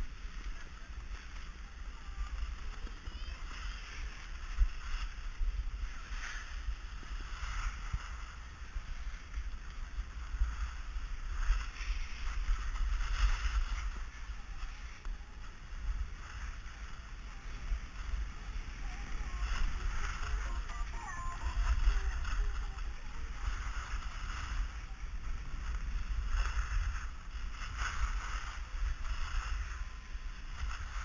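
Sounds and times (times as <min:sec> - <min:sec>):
ski edges scraping snow: 0:00.0 - 0:31.0
wind buffeting microphone: 0:00.0 - 0:31.0.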